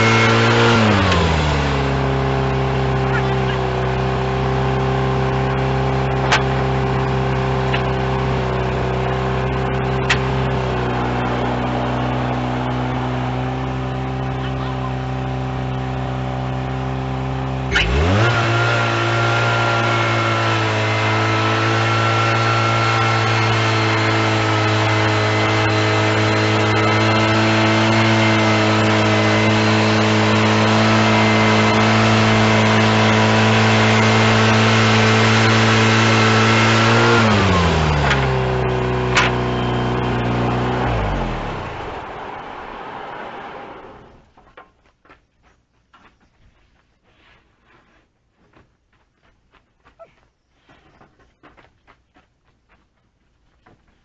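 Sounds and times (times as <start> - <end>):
sawmill engine: 0.0 - 44.4.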